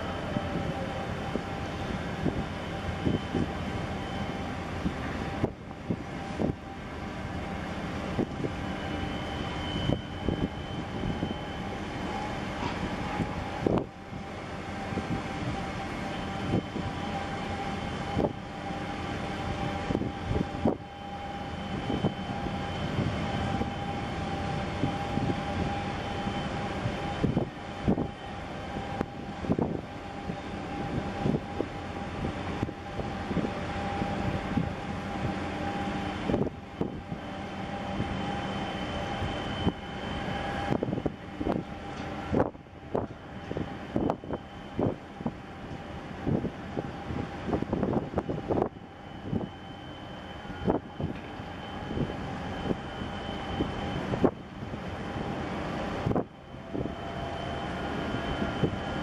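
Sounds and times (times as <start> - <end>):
engine drone with high whine: 0.0 - 59.0.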